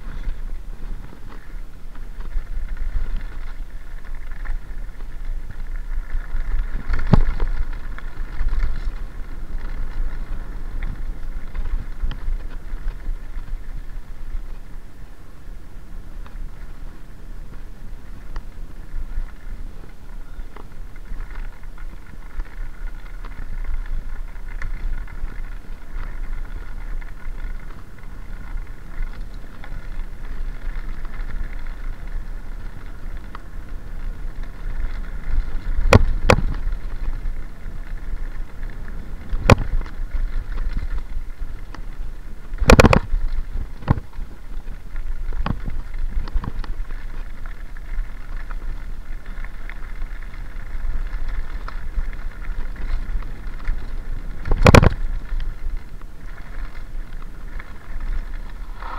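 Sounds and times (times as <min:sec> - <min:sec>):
bike knocks and rattles over bumps: 0:00.0 - 0:14.8, 0:16.0 - 0:58.9
bike tyres rumbling on gravel: 0:00.0 - 0:58.9
wind on microphone: 0:00.0 - 0:58.9.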